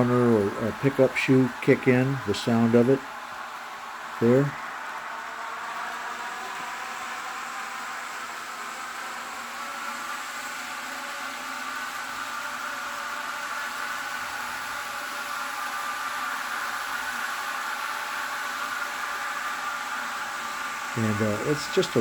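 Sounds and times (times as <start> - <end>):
model train whirring hiss: 0.0 - 22.0.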